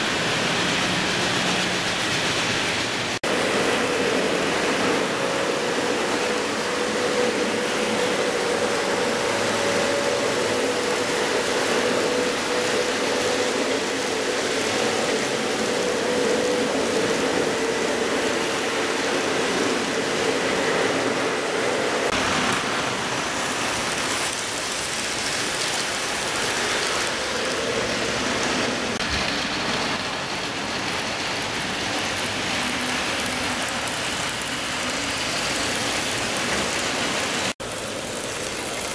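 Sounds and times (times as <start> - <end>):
model train wheels rattling on rails: 0.0 - 38.9.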